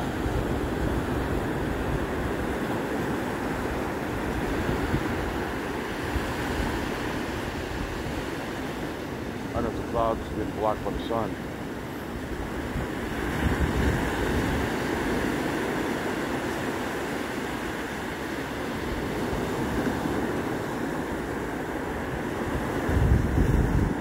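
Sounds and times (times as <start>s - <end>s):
wind buffeting microphone: 0.0s - 10.4s, 12.2s - 24.0s
small waves breaking on sand: 0.0s - 24.0s.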